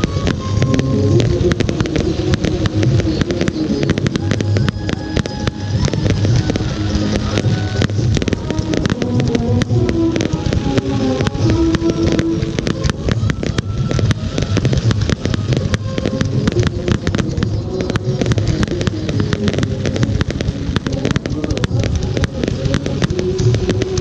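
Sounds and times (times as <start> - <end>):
continuous low rumble: 0.0 - 24.0
fireworks bursting and crackling: 0.0 - 24.0.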